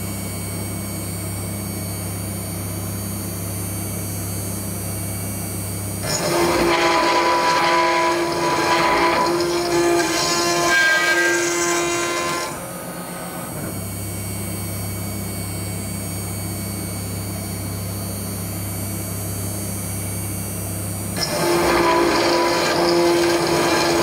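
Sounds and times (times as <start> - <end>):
router cutting steel whine: 1.8 - 24.0
machine humming: 4.7 - 24.0.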